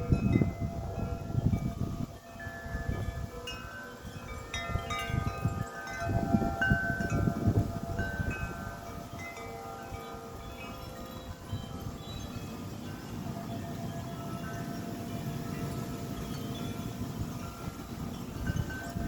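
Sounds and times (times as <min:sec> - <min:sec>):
wind rumbling: 0:00.0 - 0:03.4, 0:04.0 - 0:19.0
wind chimes ringing: 0:00.0 - 0:19.0.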